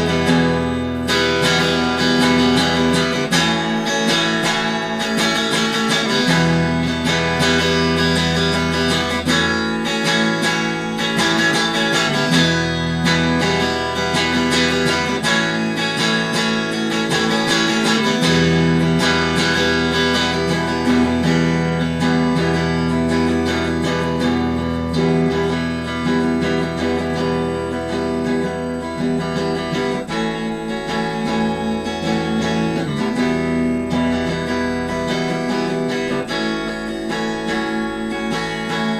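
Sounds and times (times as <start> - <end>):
electric guitar strumming chords: 0.0 - 38.9.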